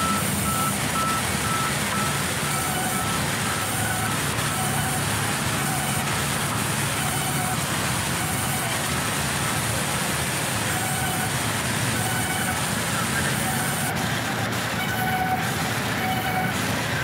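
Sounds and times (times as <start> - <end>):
band saw cutting wooden planks: 1.8 - 17.0.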